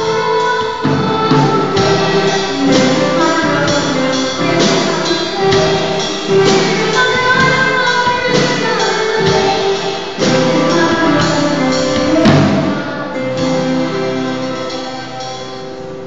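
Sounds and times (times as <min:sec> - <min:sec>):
girl singing into a microphone: 0:00.0 - 0:15.2.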